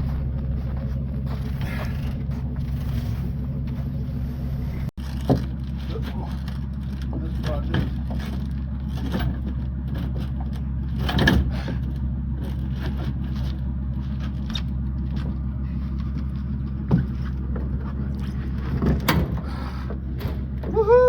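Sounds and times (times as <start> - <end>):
scraping and bumping: 0.0 - 20.8
vehicle engine idling: 0.0 - 21.0.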